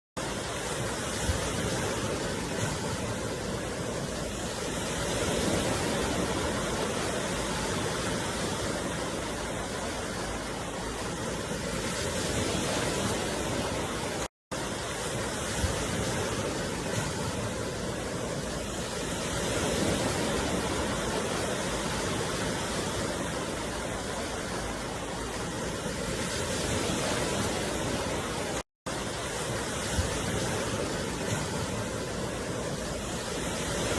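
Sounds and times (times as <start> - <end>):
ocean surf washing on beach: 0.2 - 33.9.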